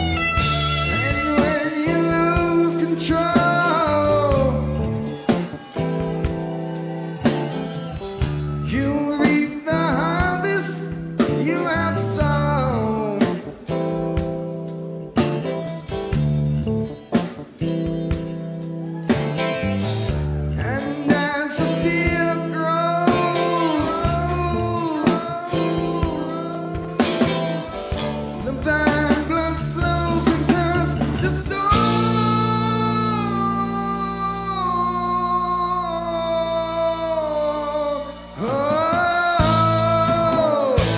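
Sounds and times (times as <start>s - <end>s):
bass guitar: 0.0s - 40.9s
drums: 0.0s - 40.9s
electric guitars: 0.0s - 40.9s
person singing: 0.4s - 14.0s, 18.8s - 40.9s.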